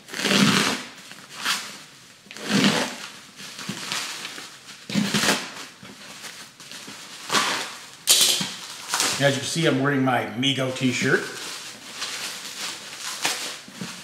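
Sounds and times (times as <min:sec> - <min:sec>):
plastic film crinkling rips: 0:00.0 - 0:09.6, 0:11.0 - 0:14.0
plastic rustling: 0:00.0 - 0:09.8, 0:10.8 - 0:14.0.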